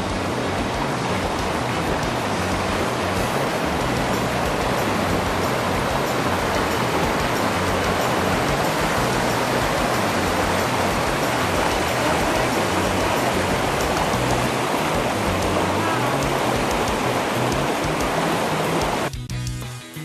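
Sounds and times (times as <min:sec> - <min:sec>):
steady rushing hiss: 0:00.0 - 0:19.1
background music with low bass: 0:00.0 - 0:20.0.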